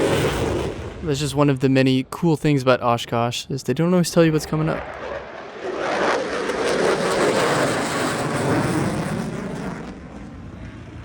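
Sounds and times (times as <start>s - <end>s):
jet fighter roar: 0.0s - 2.3s, 4.0s - 11.0s.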